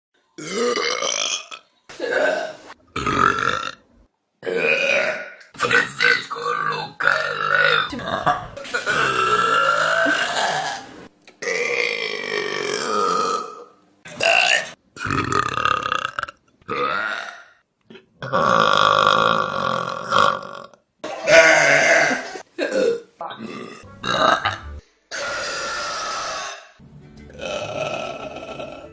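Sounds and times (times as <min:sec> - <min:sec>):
people burping: 0:00.4 - 0:03.8, 0:04.4 - 0:26.7, 0:27.3 - 0:28.9.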